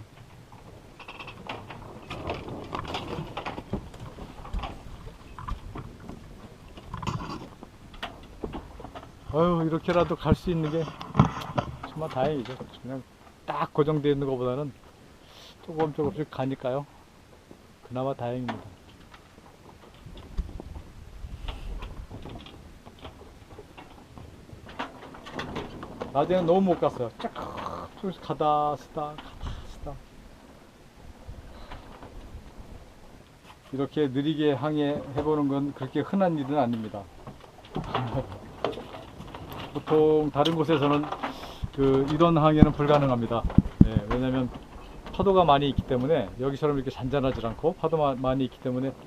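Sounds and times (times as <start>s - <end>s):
boat knocks and clicks: 0.0s - 14.9s, 15.7s - 16.8s, 17.4s - 30.0s, 34.5s - 49.0s
sailboat creaking: 0.0s - 49.0s.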